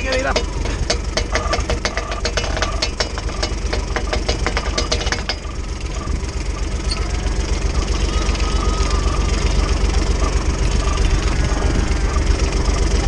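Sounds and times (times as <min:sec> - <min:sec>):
hand winch clicking: 0:00.0 - 0:12.5
utility vehicle engine idling: 0:00.0 - 0:13.0.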